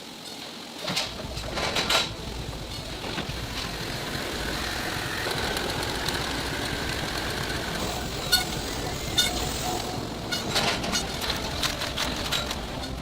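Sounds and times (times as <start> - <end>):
heavy machinery rumble: 0.9 - 13.0.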